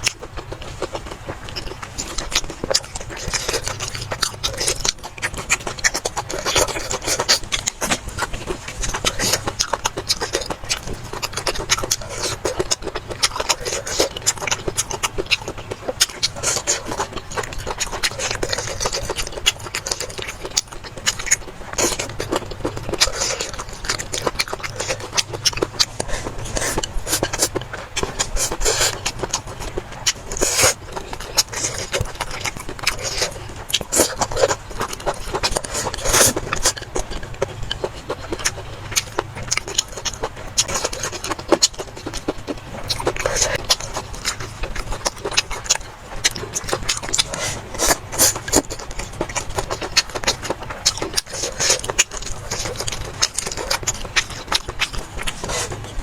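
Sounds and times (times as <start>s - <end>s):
chewing and mouth noises: 0.0s - 56.0s.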